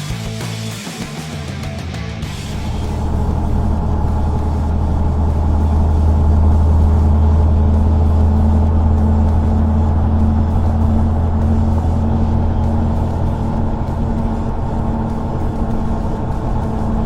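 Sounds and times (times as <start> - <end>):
vehicle engine and road drone: 2.2 - 17.0.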